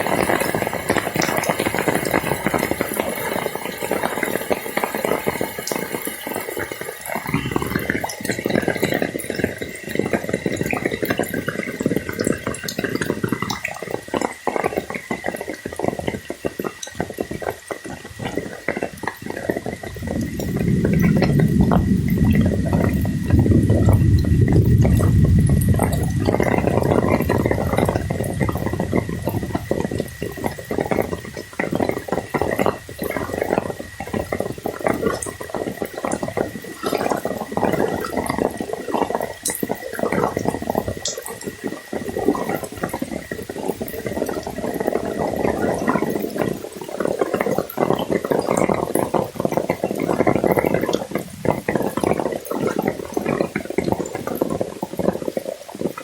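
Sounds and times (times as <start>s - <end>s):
water sloshing and splashing: 5.4s - 56.0s.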